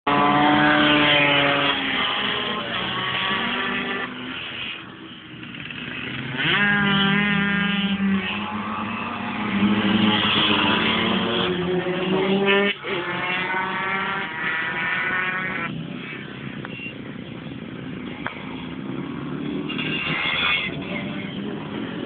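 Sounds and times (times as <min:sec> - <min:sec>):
racing motorcycle engines: 0:00.1 - 0:22.0.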